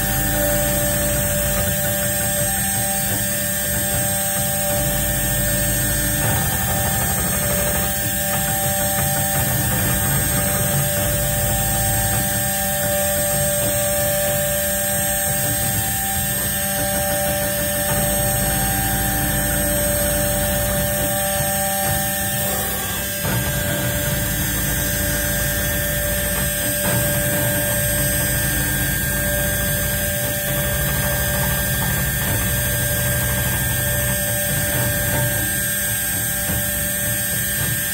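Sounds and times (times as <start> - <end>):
engraving machine humming and whining: 0.0 - 37.9.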